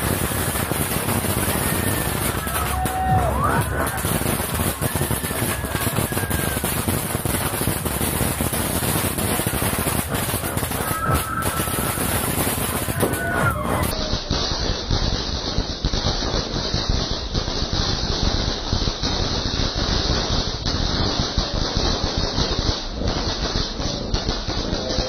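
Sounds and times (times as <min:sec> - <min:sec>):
firecrackers crackling: 0:00.0 - 0:25.0.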